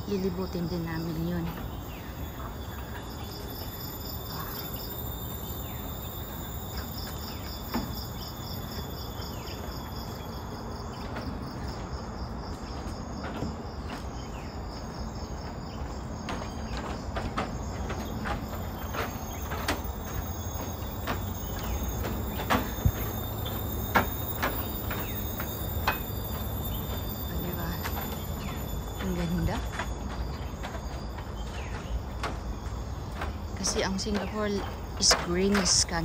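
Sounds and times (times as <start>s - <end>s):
high-pitched insect hum: 0.0s - 36.0s
insects chirping: 0.0s - 36.0s.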